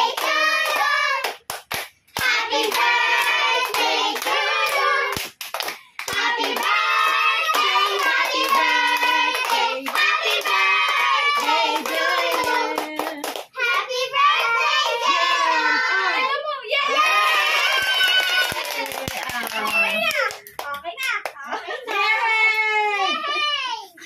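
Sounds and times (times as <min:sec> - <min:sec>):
hands clapping along: 0:00.0 - 0:15.0, 0:17.6 - 0:22.7.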